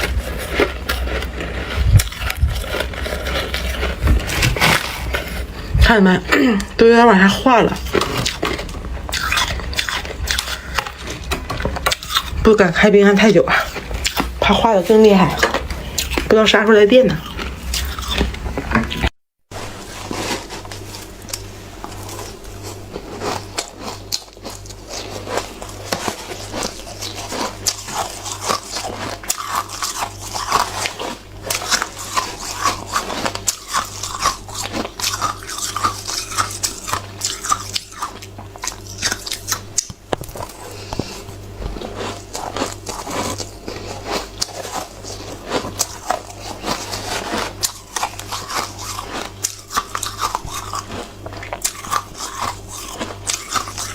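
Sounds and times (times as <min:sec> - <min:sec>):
chewing crunchy ice: 0:00.0 - 0:53.9.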